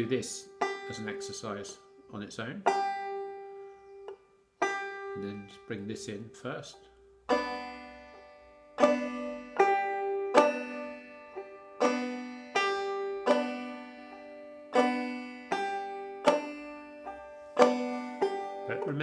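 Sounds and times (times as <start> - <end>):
banjo playing: 0.0 - 19.0.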